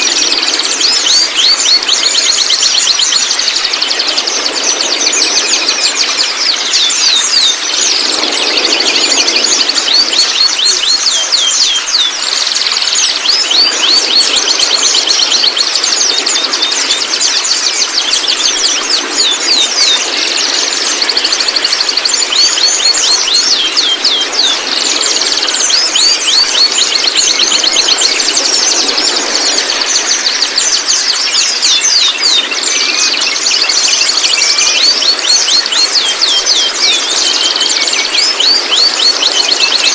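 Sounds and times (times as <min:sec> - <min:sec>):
bird singing with trills: 0:00.0 - 0:39.9.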